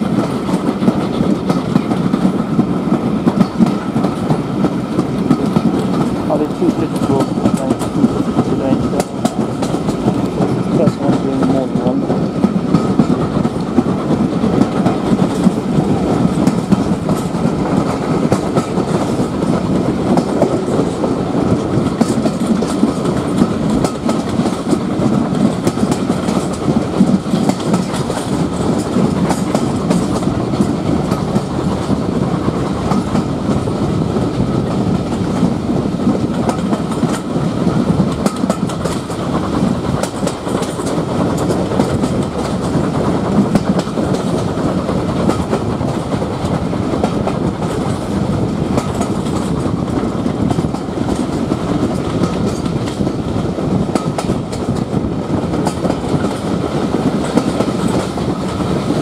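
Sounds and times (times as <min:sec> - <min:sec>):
track clickety-clack: 0:00.0 - 0:59.0
train wheels rumbling on rails: 0:00.0 - 0:59.0.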